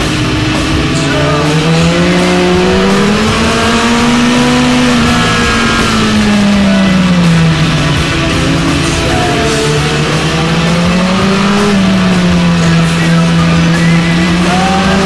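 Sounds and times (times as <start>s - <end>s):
motorcycle engine at speed: 0.0s - 15.0s.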